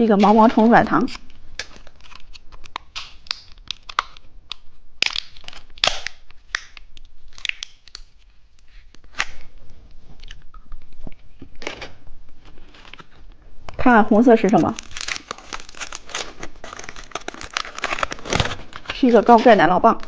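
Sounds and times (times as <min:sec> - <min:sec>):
plastic wrapper crinkling and tearing: 0:00.1 - 0:09.6, 0:10.2 - 0:20.0.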